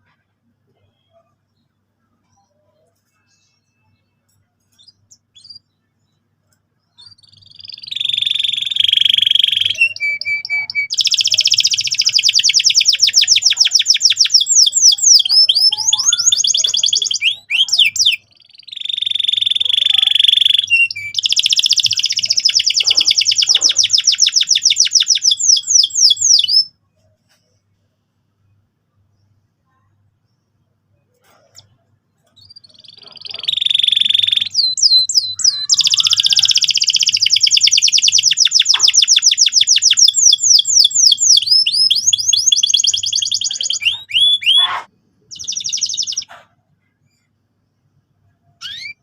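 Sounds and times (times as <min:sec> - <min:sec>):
canary singing trills: 0:00.7 - 0:26.8, 0:29.2 - 0:47.4, 0:48.2 - 0:49.0.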